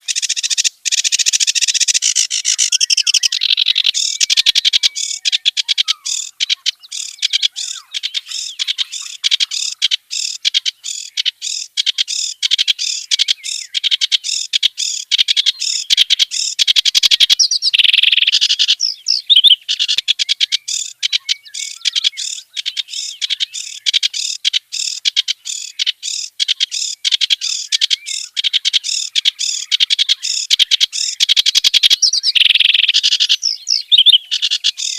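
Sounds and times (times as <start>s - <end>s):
reed warbler singing: 0.0s - 34.9s.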